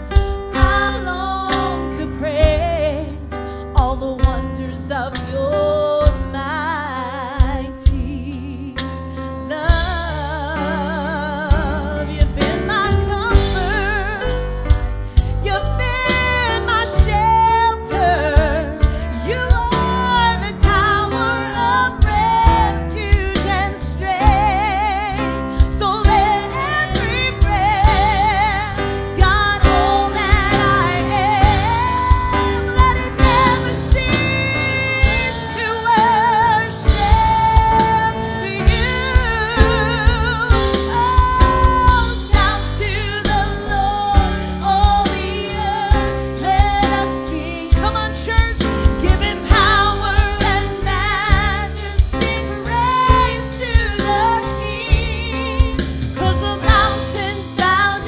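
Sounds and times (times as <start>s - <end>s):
steady drum beat: 0.0s - 2.9s, 11.5s - 58.0s
keyboard: 0.0s - 58.0s
electric guitar: 8.5s - 58.0s.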